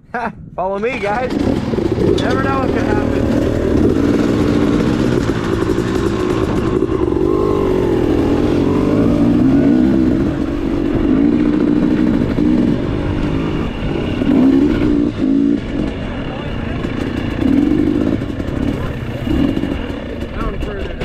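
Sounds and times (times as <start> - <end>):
dirt bike engines revving: 0.7 - 21.0.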